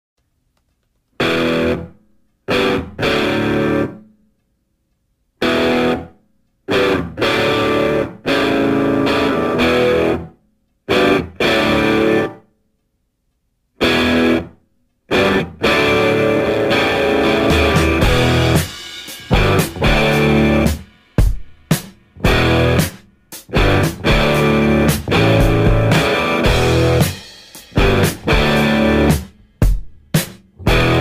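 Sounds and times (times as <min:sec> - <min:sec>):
guitar chords in bursts: 0:01.2 - 0:04.0, 0:05.4 - 0:12.4, 0:13.8 - 0:20.9, 0:22.2 - 0:29.8, 0:30.6 - 0:31.0.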